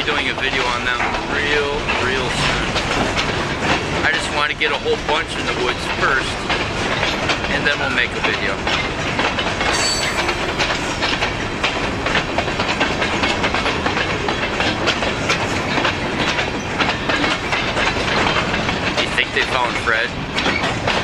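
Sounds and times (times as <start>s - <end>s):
freight cars rolling: 0.0s - 21.0s
train wheels clicking over rail joints: 0.0s - 21.0s.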